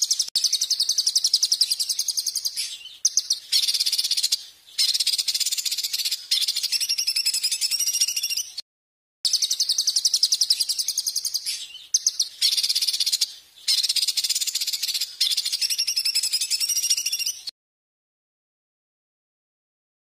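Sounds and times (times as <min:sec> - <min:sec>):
songbird high-pitched trill: 0:00.0 - 0:08.6, 0:09.3 - 0:17.5.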